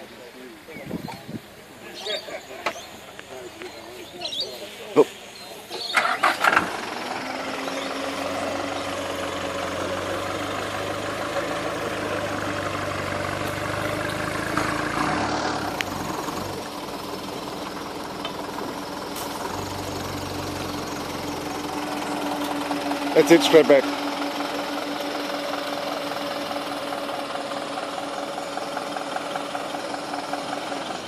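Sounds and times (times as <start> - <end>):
truck engine starting and idling: 1.5 - 31.0.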